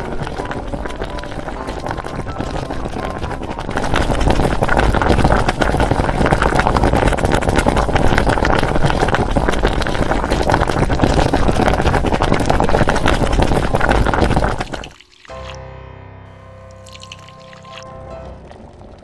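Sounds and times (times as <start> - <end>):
soup boiling and bubbling: 0.0 - 15.6, 16.7 - 19.0.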